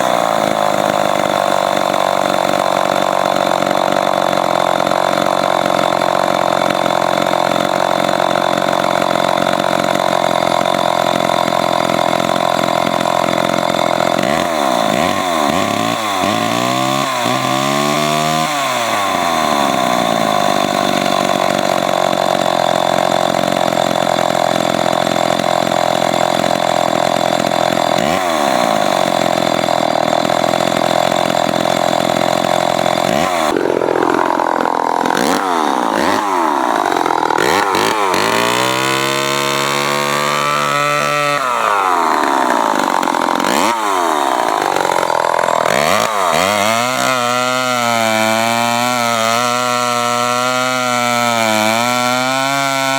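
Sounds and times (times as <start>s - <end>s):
chainsaw engine revving: 0.0s - 52.9s.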